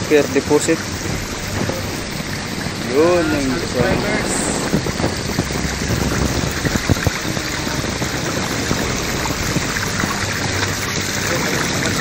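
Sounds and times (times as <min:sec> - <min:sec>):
stream water over rocks: 0:00.0 - 0:12.0.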